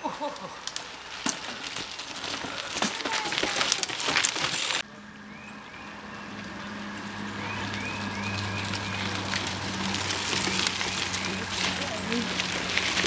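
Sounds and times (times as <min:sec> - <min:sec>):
bike tyres crunching over leaves: 0:00.0 - 0:04.8, 0:05.9 - 0:13.0.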